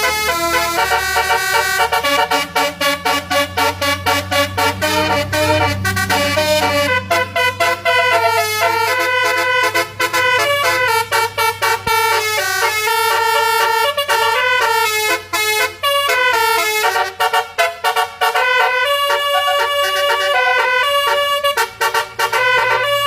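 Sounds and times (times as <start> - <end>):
musical vehicle horn melody: 0.0 - 23.0.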